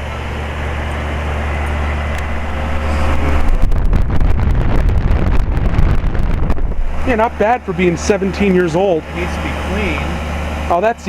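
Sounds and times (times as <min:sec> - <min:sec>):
rough gusty rushing air: 0:00.0 - 0:10.8
air conditioner unit humming: 0:00.0 - 0:11.0.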